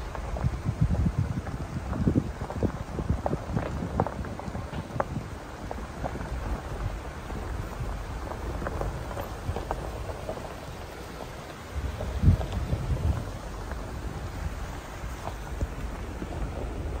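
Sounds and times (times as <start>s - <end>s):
gravel crunching: 0.0s - 17.0s
stones popping under tyres: 0.0s - 17.0s
vehicle rumbling on gravel road: 0.0s - 17.0s.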